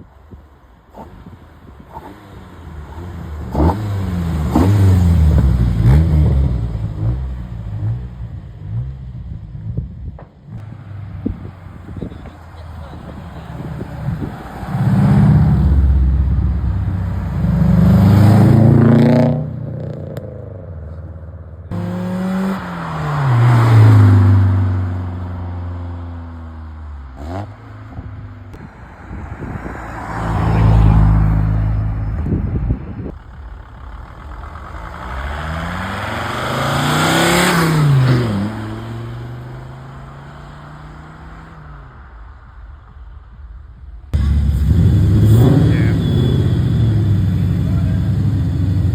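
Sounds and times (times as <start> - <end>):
cars accelerating past: 0.9 - 9.1, 10.5 - 21.1, 21.7 - 48.9.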